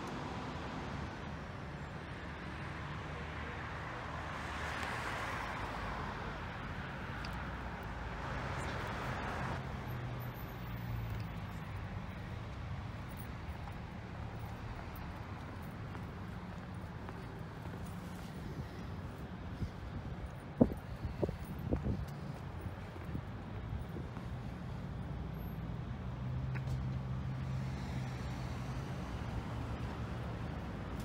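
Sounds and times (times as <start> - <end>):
vehicles passing: 0.0 - 31.0.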